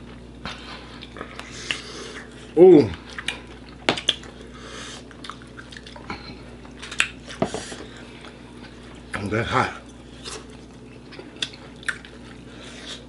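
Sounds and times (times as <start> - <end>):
people chewing: 0.0 - 9.2, 9.8 - 13.0.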